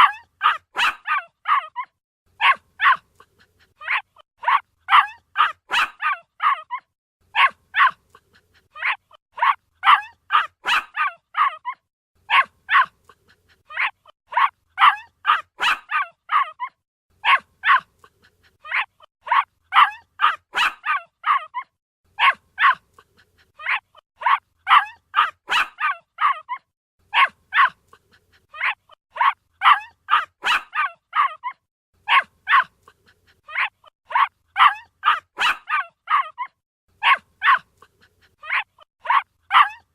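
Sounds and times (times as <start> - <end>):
puppy barking: 0.0 - 39.9.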